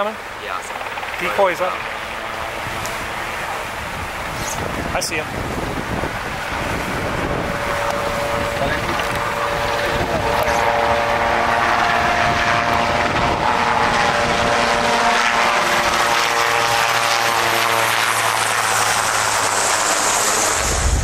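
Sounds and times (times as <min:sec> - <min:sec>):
helicopter rotor and turbine whine: 0:00.0 - 0:21.0.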